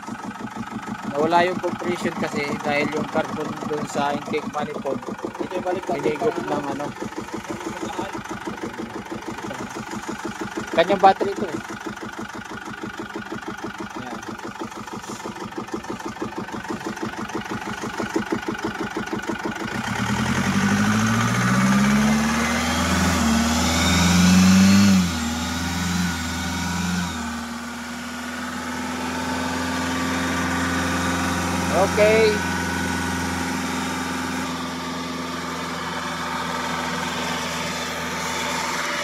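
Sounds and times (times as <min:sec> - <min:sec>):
diesel engine revving and idling: 0:00.0 - 0:39.0.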